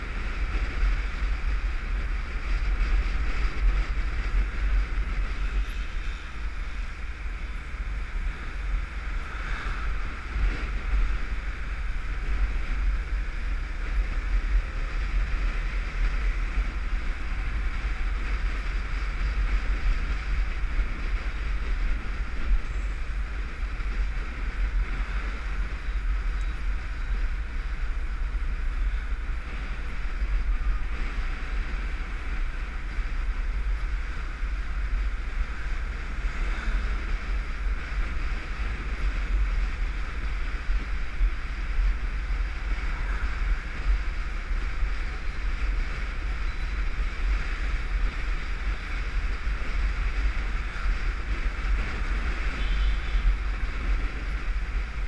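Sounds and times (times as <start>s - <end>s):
deep wind rumble: 0.0s - 55.0s
motorcycle engine: 0.0s - 55.0s
road noise: 0.0s - 55.0s.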